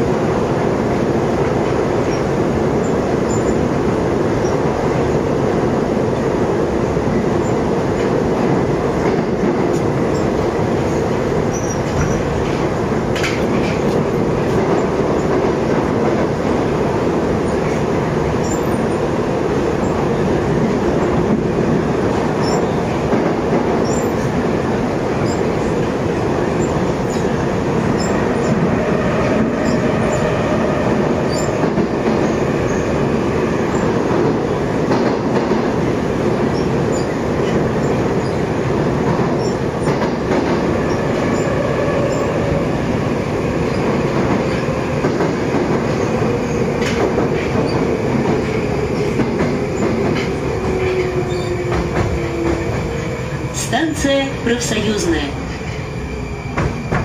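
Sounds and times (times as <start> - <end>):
train wheel and track noise: 0.0 - 57.0.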